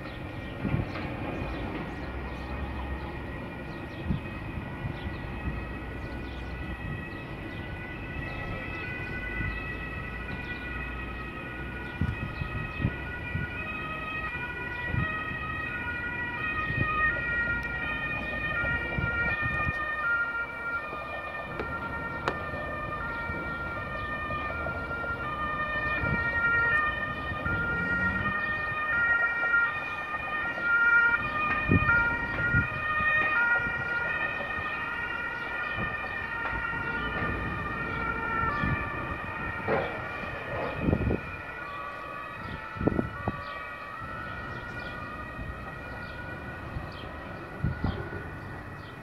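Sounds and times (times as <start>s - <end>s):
emergency vehicle sirens: 0.0s - 49.0s.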